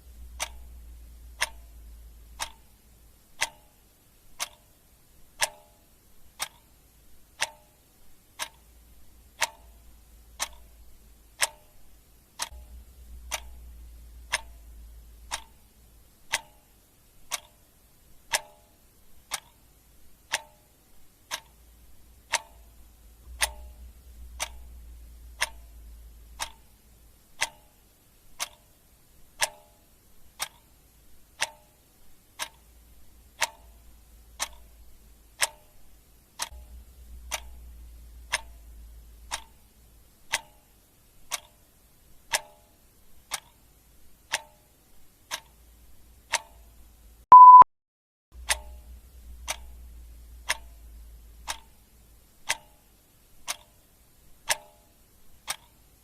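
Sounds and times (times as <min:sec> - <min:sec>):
clock ticking: 0:00.0 - 0:47.6, 0:48.4 - 0:56.0.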